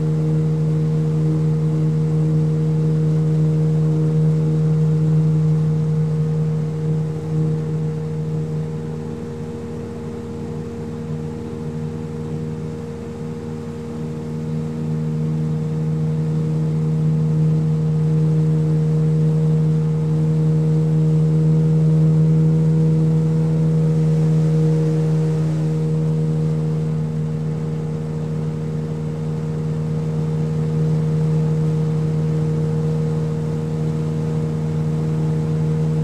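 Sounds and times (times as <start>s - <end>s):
motorboat engine droning: 0.0s - 36.0s.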